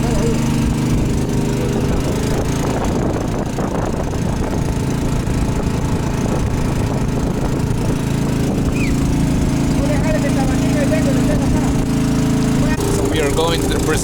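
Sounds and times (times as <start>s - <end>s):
small engine running steadily: 0.0s - 14.0s.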